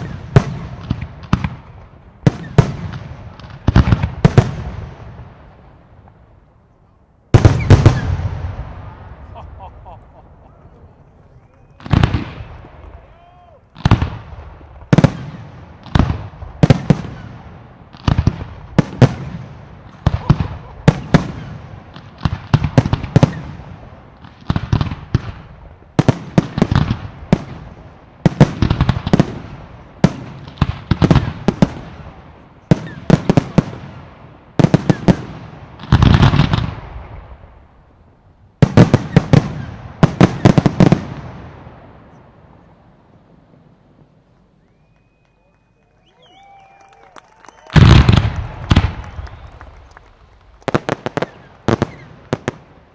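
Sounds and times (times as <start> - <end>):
fireworks bangs: 0.0 - 6.4, 7.3 - 52.9
fireworks crackling: 0.0 - 52.9.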